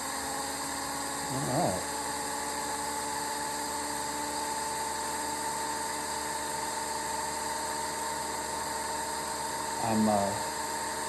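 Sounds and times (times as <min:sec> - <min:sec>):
model jet engine whine: 0:00.0 - 0:11.0.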